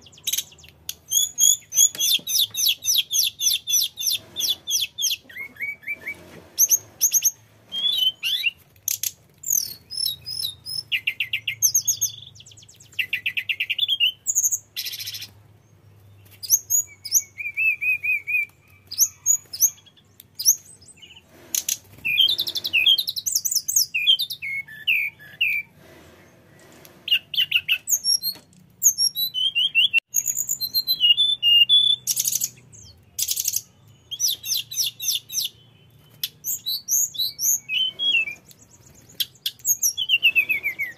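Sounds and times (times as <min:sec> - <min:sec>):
bird singing whistles and trills: 0:00.0 - 0:15.3, 0:16.2 - 0:21.2, 0:21.9 - 0:25.8, 0:27.1 - 0:40.9.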